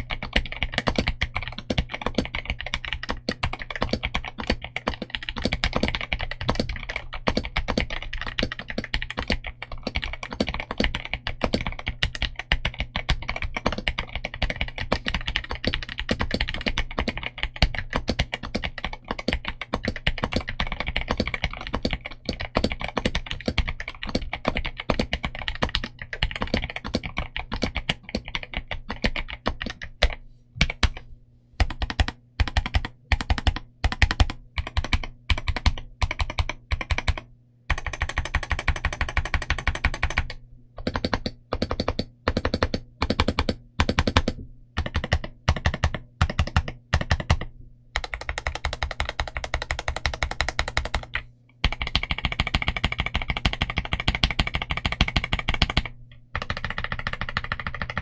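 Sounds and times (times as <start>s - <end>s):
fast typing on mechanical keyboard: 0.0s - 31.0s, 31.6s - 58.0s.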